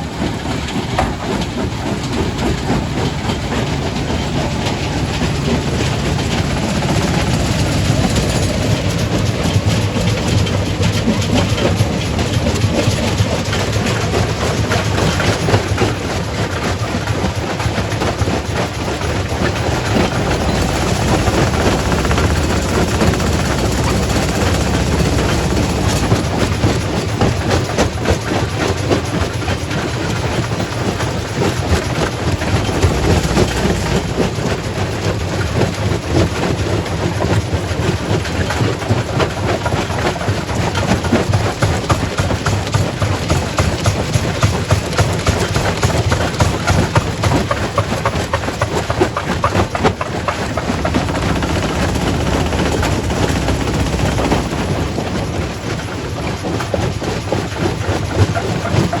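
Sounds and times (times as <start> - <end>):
low machinery rumble: 0.0 - 59.0.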